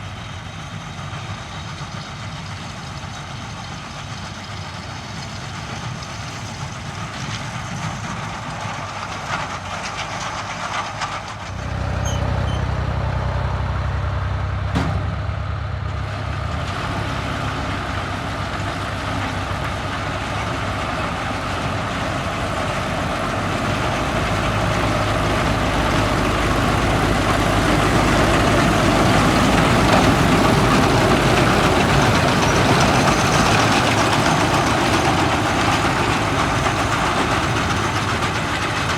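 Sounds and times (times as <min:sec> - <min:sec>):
tractor engine under load: 0:00.0 - 0:38.9
round baler working hay: 0:00.2 - 0:38.9.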